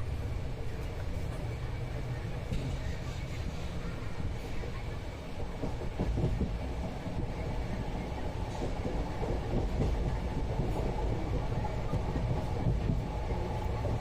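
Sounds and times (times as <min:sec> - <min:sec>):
train carriage rumbling on rails: 0:00.0 - 0:14.0.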